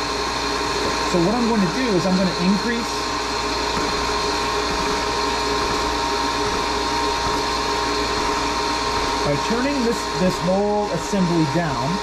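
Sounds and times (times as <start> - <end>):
vacuum pump motor hum: 0.0 - 12.0.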